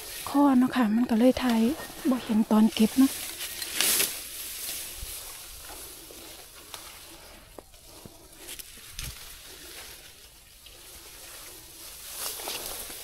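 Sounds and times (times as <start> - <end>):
grass and undergrowth rustling: 0.0 - 13.0.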